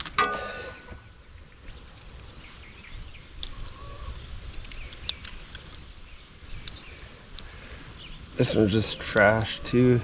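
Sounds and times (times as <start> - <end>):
faint birds chirping: 0.0 - 10.0.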